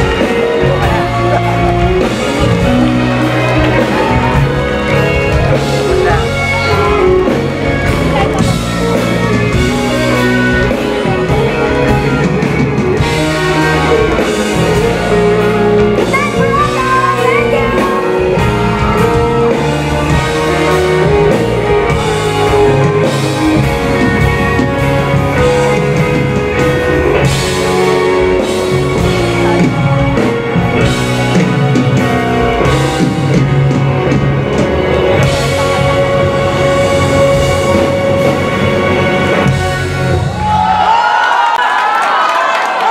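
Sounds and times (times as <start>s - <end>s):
live pop-rock band playing: 0.0s - 42.9s.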